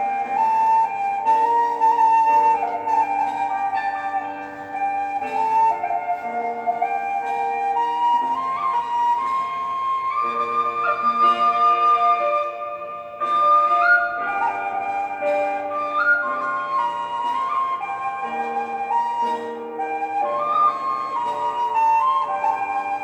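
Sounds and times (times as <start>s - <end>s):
slow flute melody: 0.0s - 23.0s.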